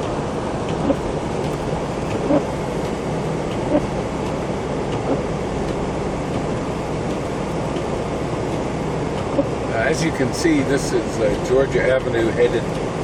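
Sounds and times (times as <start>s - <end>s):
low engine hum: 0.0s - 13.0s
tyres on wet slushy road: 0.0s - 13.0s.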